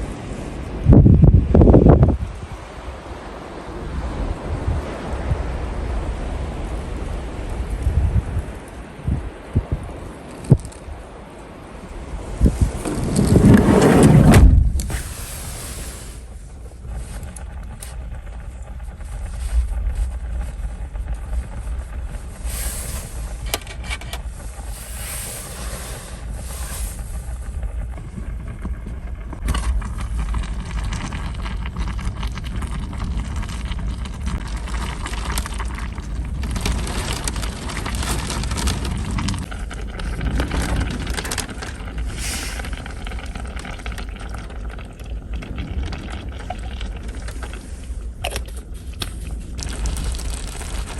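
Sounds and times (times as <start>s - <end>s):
strong wind blowing: 0.0s - 50.9s.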